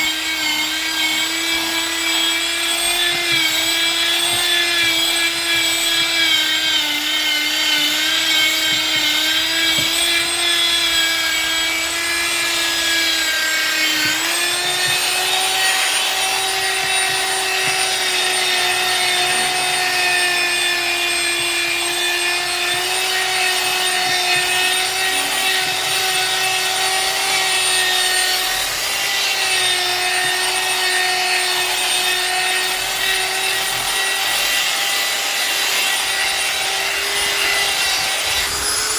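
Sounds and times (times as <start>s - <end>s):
power tool motor whining: 0.0s - 38.9s.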